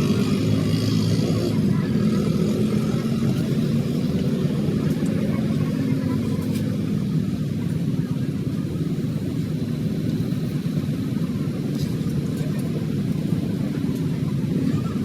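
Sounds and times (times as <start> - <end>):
vehicle engine running steadily: 0.0 - 15.0.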